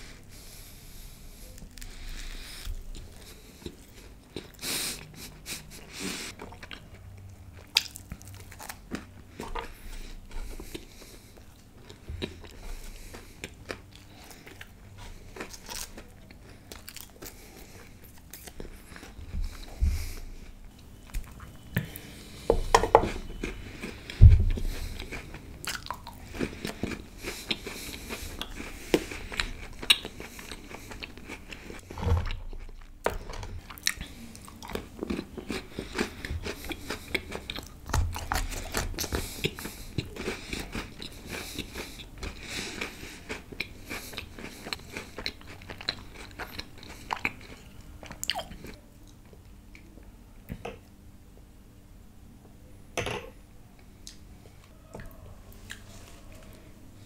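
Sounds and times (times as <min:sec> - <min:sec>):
wet chewing: 0:01.3 - 0:49.9.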